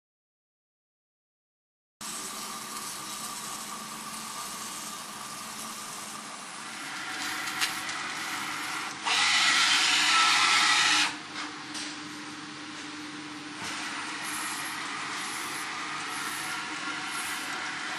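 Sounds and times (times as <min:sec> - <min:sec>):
machine hum with faint whine: 0:02.0 - 0:17.9.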